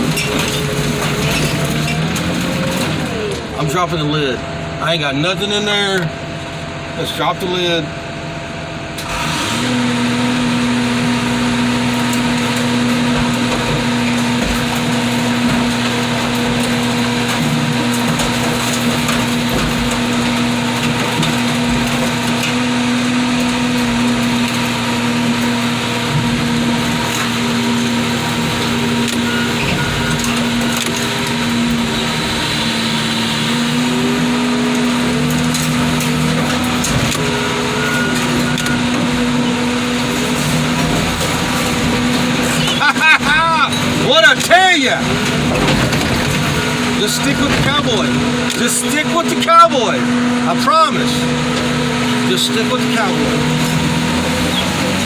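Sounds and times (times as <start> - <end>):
van body cracking: 0.0 - 4.0, 9.0 - 55.0
car crusher engine and hydraulics: 0.0 - 55.0.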